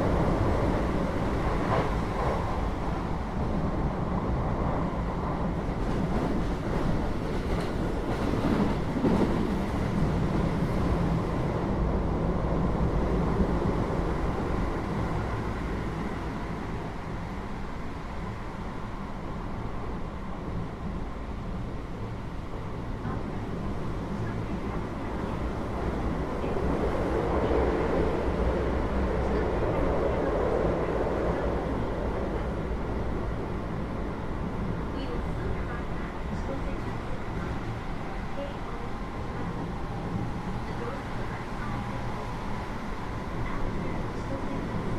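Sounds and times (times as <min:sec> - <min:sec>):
train running rumble: 0:00.0 - 0:44.9.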